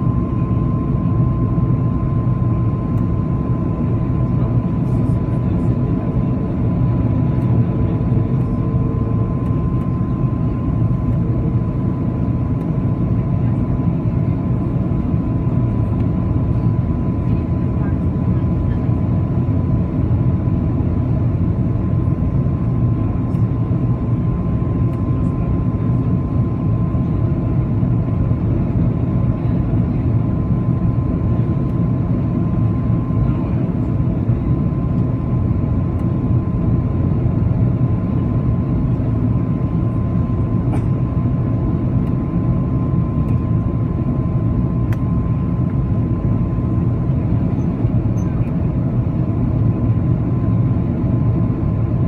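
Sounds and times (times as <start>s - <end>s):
airplane cabin engine rumble: 0.0s - 52.0s.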